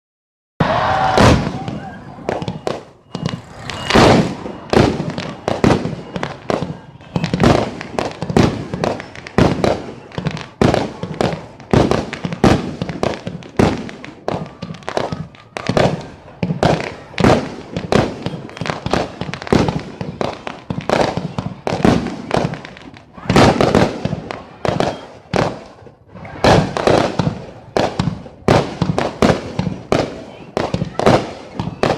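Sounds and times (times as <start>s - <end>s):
fireworks bangs echoing: 0.6s - 31.9s.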